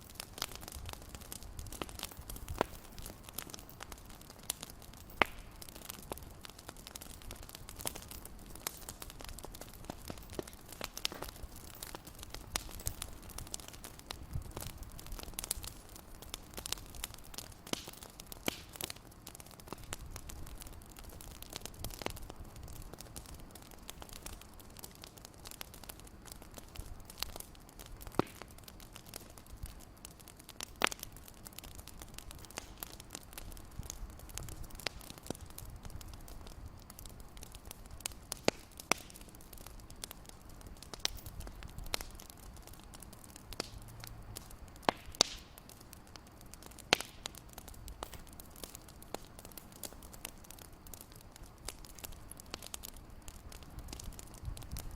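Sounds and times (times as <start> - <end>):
fireplace crackling: 0.0 - 54.9.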